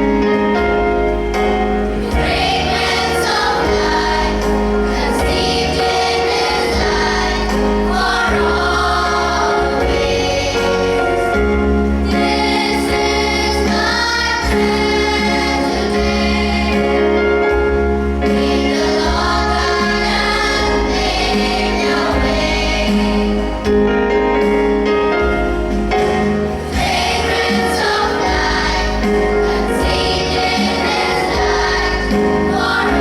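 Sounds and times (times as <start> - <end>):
held instrumental chords: 0.0 - 33.0
choir singing: 1.9 - 24.4, 25.9 - 33.0.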